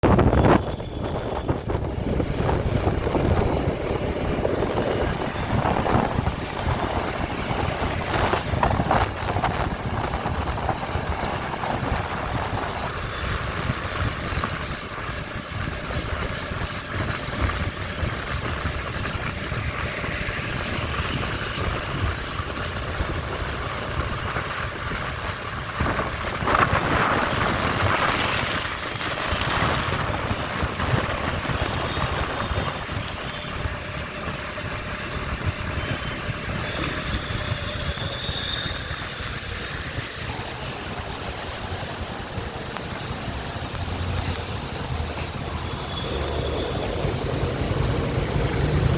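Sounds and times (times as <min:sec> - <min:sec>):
wind buffeting microphone: 0:00.0 - 0:45.4
low road rumble: 0:00.0 - 0:48.9.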